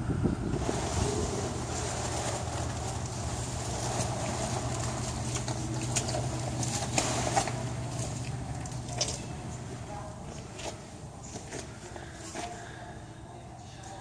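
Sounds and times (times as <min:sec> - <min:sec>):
vehicle engine idling: 0:00.0 - 0:13.7.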